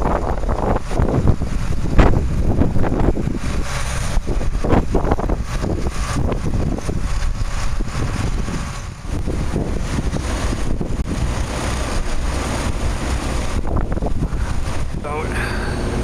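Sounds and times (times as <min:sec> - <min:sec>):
farm machinery rumbling: 0:00.0 - 0:16.0
wind buffeting microphone: 0:00.0 - 0:16.0.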